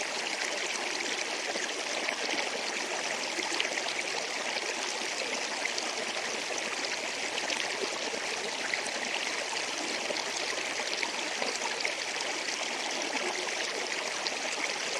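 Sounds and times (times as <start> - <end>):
small water splashes and trickles: 0.0 - 14.9.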